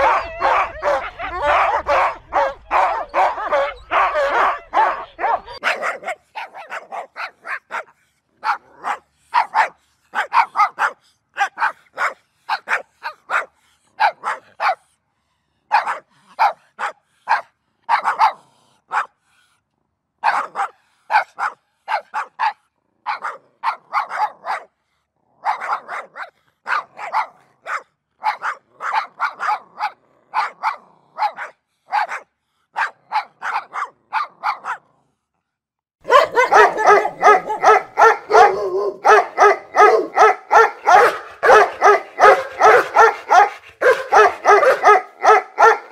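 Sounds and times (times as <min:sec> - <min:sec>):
dog barking: 0:00.0 - 0:14.9, 0:15.7 - 0:19.2, 0:20.2 - 0:24.8, 0:25.4 - 0:34.9, 0:36.0 - 0:45.9.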